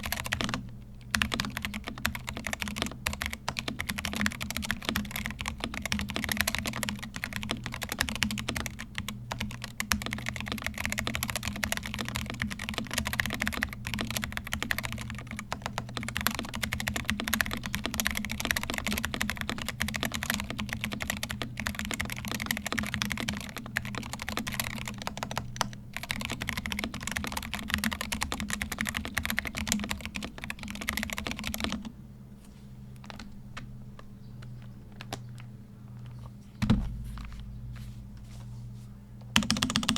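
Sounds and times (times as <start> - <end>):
mechanical keyboard typing: 0.0 - 31.9, 33.0 - 33.3, 39.4 - 39.9
steady low hum: 0.0 - 39.9.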